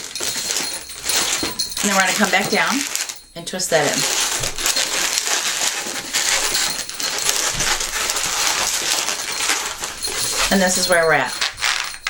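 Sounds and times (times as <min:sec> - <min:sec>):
balloons squeaking and rubbing: 0:00.0 - 0:12.0.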